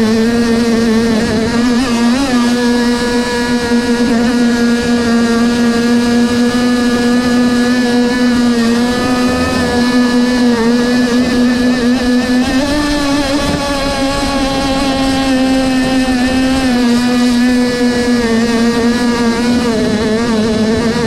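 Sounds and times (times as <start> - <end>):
small model boat engine running: 0.0 - 21.0.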